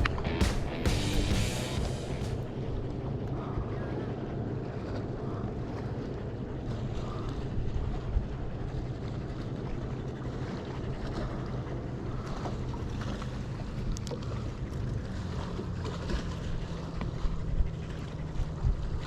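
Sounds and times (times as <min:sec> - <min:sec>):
low hum: 0:00.0 - 0:19.0
wind rumbling on microphone: 0:00.0 - 0:19.0.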